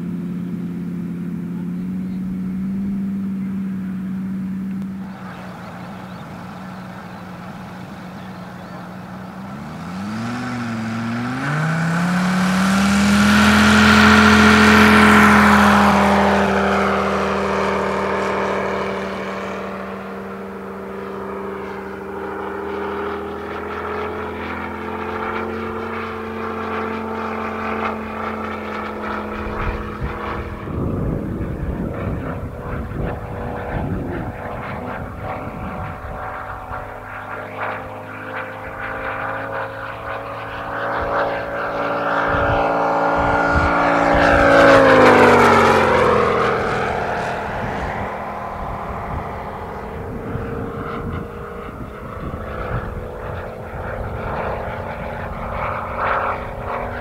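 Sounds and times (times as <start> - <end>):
model plane radial engine revving: 0.0 - 57.0.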